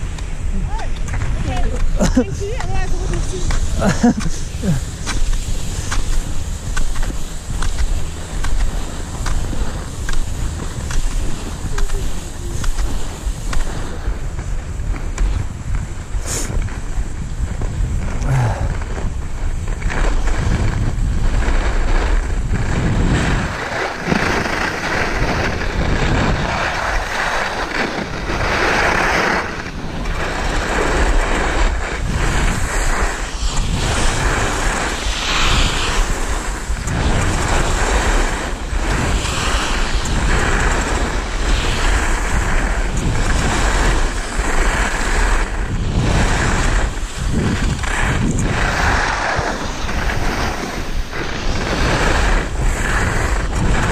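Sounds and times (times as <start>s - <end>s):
skis scraping on snow: 0.0s - 53.9s
wind noise on microphone: 0.0s - 53.9s.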